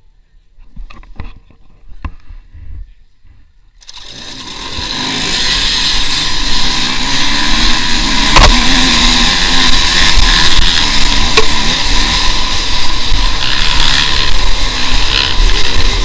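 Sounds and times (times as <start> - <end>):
dirt bike engines: 0.0 - 16.0.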